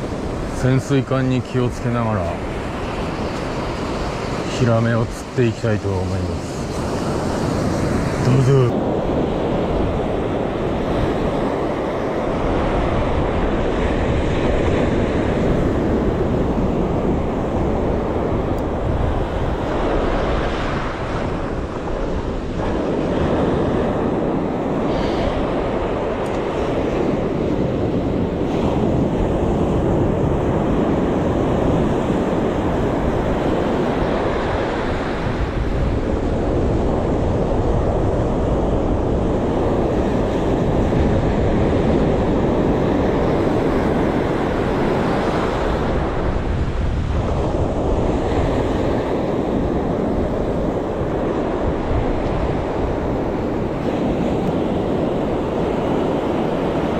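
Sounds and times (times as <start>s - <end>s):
waves washing on shore: 0.0s - 56.9s
wind buffeting microphone: 0.0s - 56.9s.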